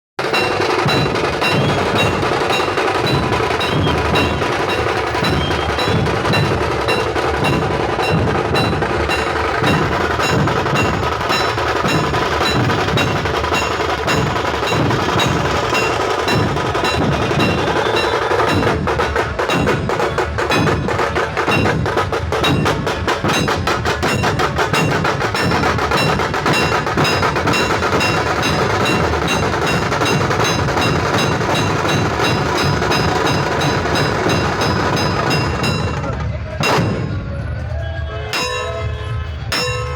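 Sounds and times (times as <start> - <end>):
many drums beating: 0.2 - 39.9.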